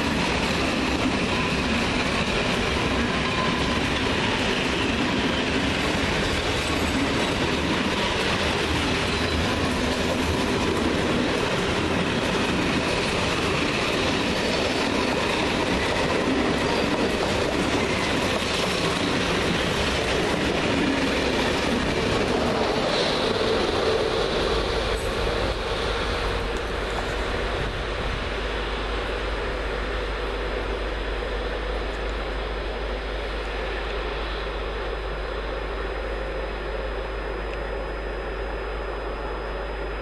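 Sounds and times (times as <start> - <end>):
electric locomotive hum: 0.0 - 40.0
train wheels rumbling on rail: 0.0 - 40.0.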